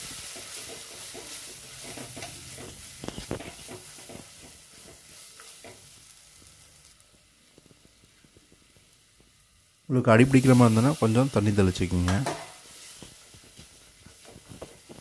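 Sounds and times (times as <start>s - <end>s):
spices sizzling in oil: 0.0s - 15.0s.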